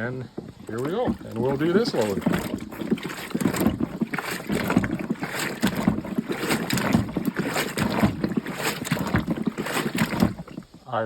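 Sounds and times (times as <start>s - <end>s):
water sloshing in washing machine: 0.0s - 11.0s.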